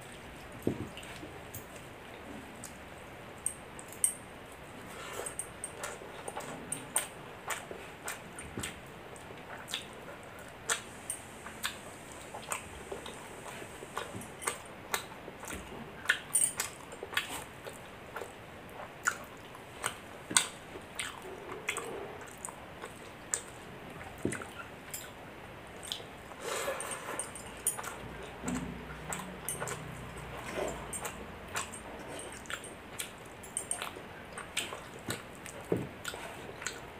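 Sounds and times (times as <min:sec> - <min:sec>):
person chewing with mouth clicks: 0:05.2 - 0:10.9, 0:11.5 - 0:25.2, 0:25.8 - 0:36.9.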